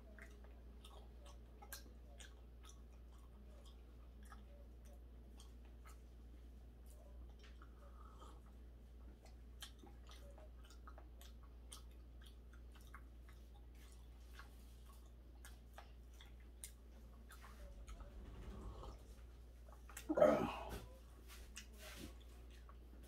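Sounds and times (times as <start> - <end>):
person chewing: 0.0 - 23.0
steady low hum: 0.0 - 23.0.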